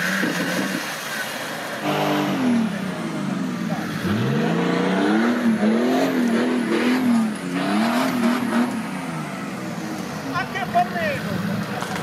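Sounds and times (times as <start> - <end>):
off-road engine revving: 0.0 - 12.0.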